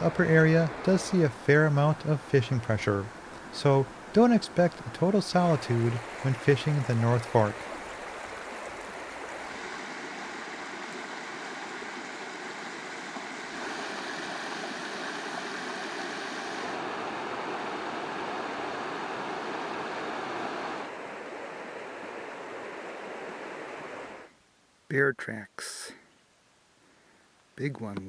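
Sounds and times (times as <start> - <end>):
river water rushing: 0.0 - 24.3.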